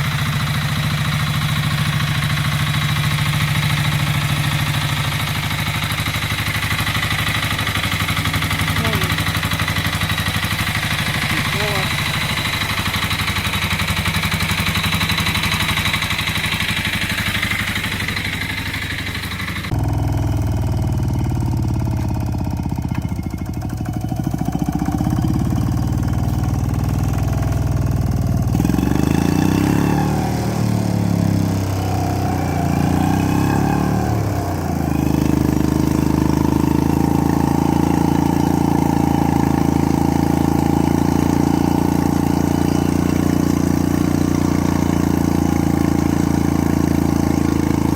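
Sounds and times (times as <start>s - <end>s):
walk-behind tractor engine running: 0.0s - 47.9s.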